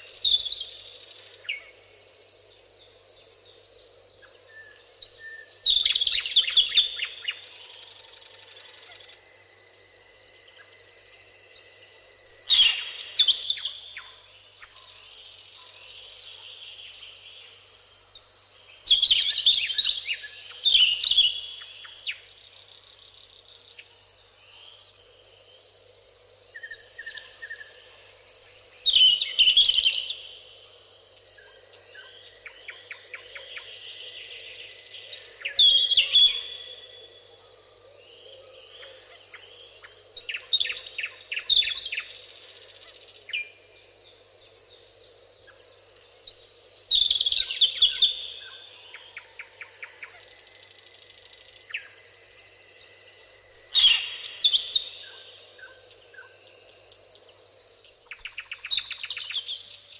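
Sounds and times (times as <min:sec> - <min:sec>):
insects buzzing trills: 0:00.0 - 0:59.9
songbirds chirping: 0:00.0 - 0:59.9.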